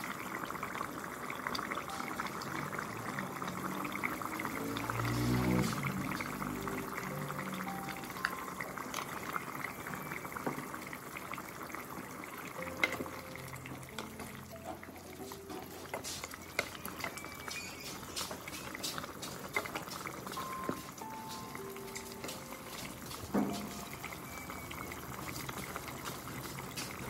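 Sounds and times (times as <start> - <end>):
soup boiling and bubbling: 0.0 - 27.0.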